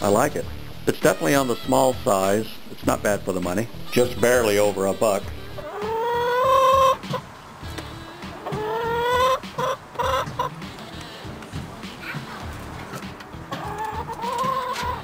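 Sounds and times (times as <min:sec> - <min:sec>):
hens calling and clucking: 0:00.0 - 0:15.0.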